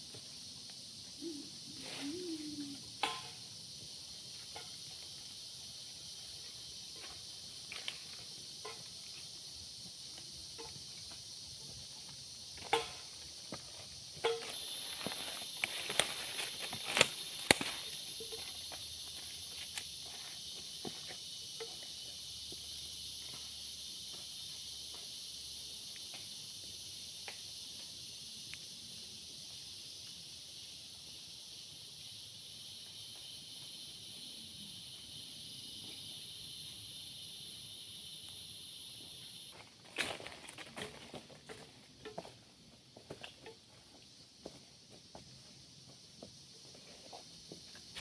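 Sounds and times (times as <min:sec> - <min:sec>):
insects chorus: 0:00.0 - 0:48.0.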